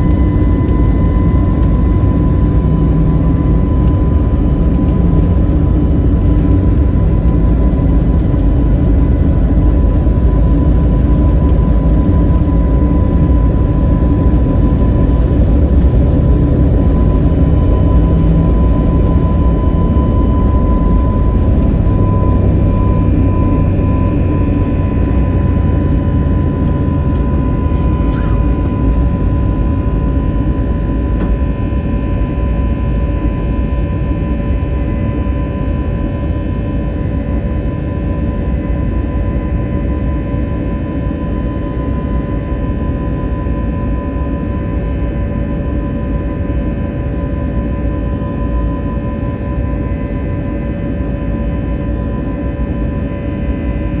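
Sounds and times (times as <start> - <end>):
jet engine rumble and whine in cabin: 0.0 - 54.0.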